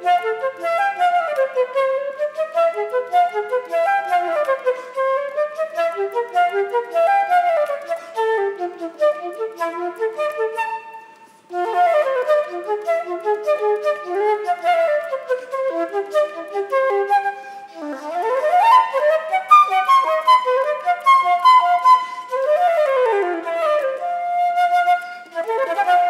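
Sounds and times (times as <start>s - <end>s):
flute playing fast runs: 0.0s - 26.0s.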